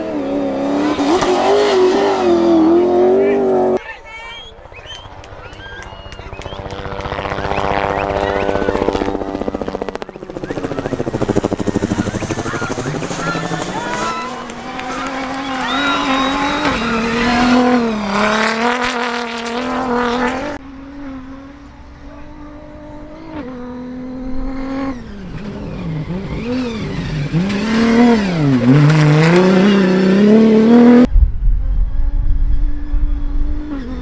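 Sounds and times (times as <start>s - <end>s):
truck engine revving: 0.0s - 3.8s, 4.7s - 31.1s.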